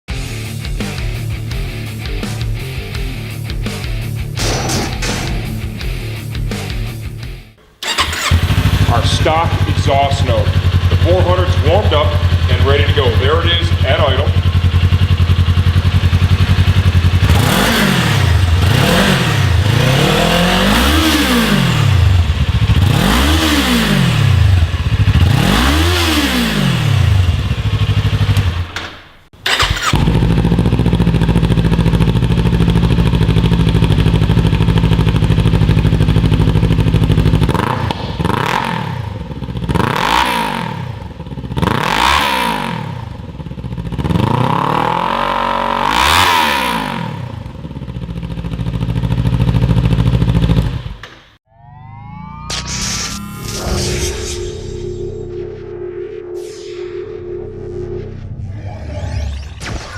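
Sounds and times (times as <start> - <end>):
motorcycle engine idling and revving: 0.1 - 51.4.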